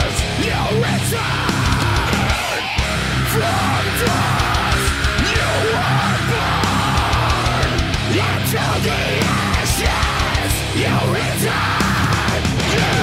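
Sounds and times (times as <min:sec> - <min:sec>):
heavy metal music with vocals: 0:00.0 - 0:13.0.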